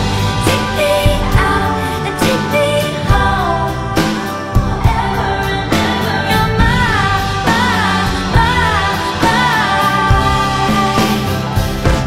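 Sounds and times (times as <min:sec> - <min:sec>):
pop song with singing: 0:00.0 - 0:12.0.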